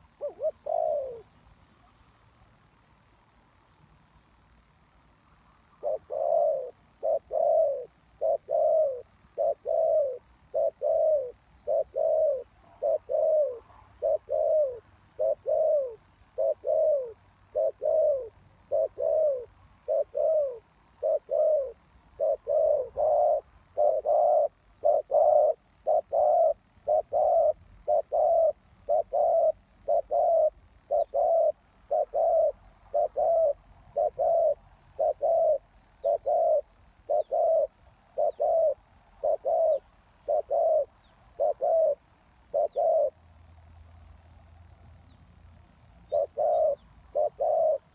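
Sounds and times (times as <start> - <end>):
dove cooing: 0.0 - 1.9, 5.7 - 43.2, 46.0 - 47.9.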